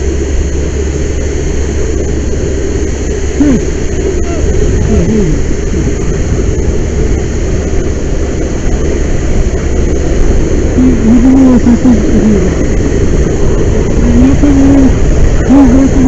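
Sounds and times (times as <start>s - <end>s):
large fire roaring: 0.0s - 16.0s
muffled wavering tone: 0.0s - 16.0s.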